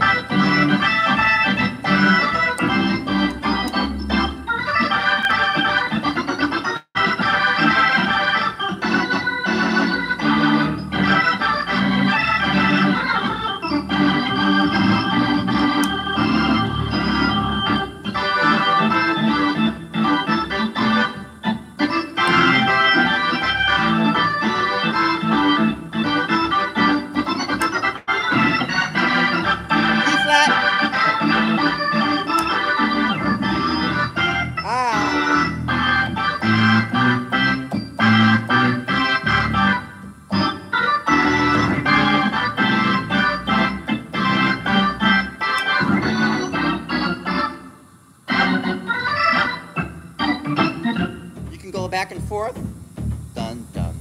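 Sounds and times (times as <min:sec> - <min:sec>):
organ playing gospel chords: 0:00.0 - 0:54.0.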